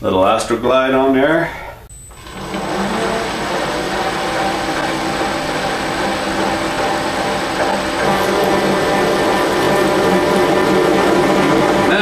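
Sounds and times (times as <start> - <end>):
milling machine drilling steel: 2.1 - 12.0.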